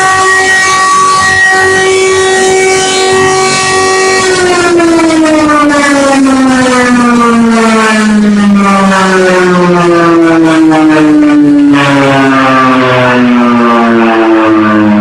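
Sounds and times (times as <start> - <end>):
siren tone winding down: 0.0 - 15.0.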